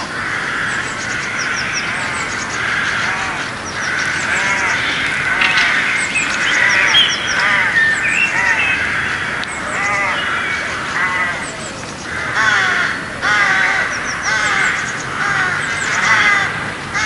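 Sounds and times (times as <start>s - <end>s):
birds chirping: 0.0s - 17.0s
lower arching bird calls: 0.0s - 17.0s.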